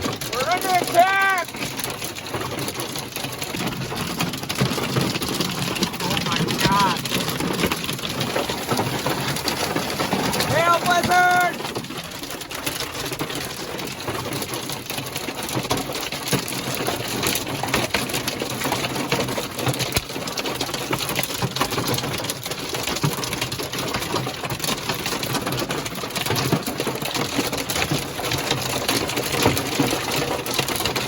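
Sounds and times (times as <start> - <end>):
hail pelting a hard surface: 0.0 - 31.0.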